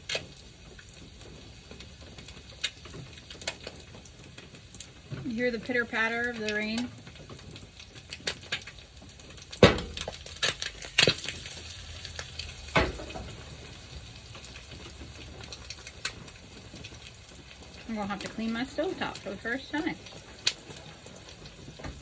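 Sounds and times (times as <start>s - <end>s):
eggs sizzling in a frying pan: 0.0s - 22.0s.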